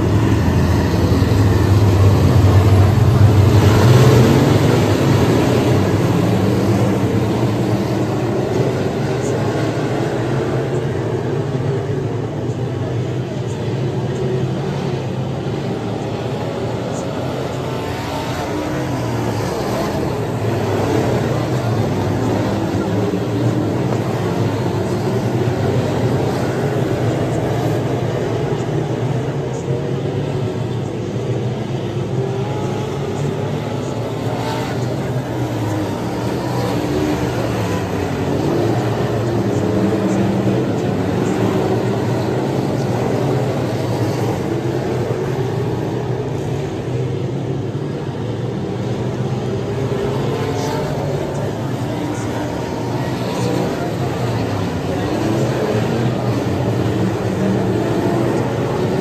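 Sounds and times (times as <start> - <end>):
race car engines droning: 0.0 - 59.0.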